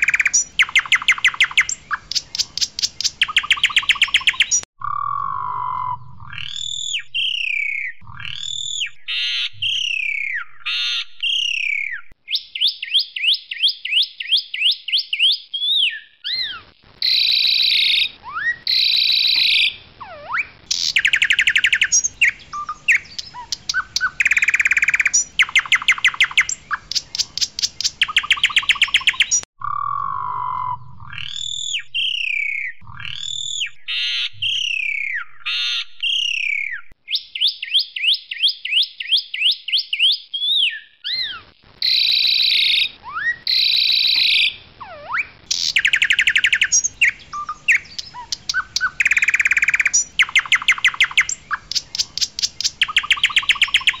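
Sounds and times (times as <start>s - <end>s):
starling singing: 0.0s - 13.3s, 15.2s - 37.5s, 40.6s - 54.0s.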